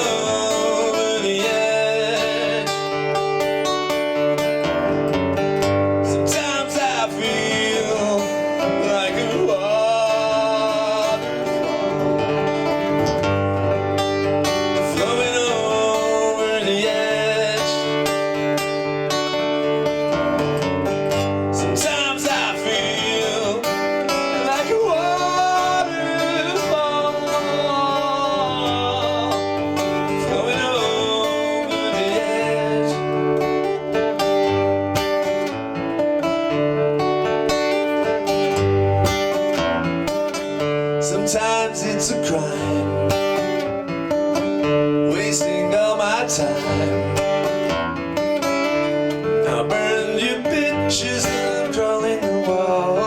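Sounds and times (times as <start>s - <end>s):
bass: 0.0s - 52.5s
acoustic guitar: 0.0s - 53.0s.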